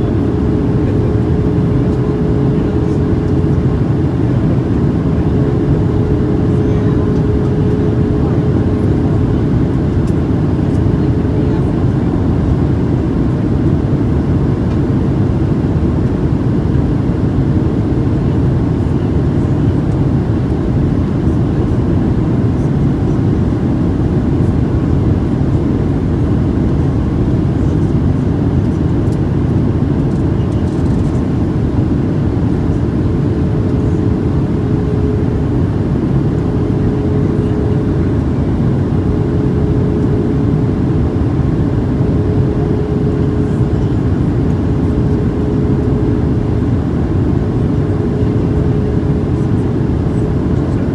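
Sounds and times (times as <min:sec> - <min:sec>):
airflow over fuselage: 0:00.0 - 0:50.9
faint steady hum: 0:00.0 - 0:50.9
jet engines rumbling: 0:00.0 - 0:50.9.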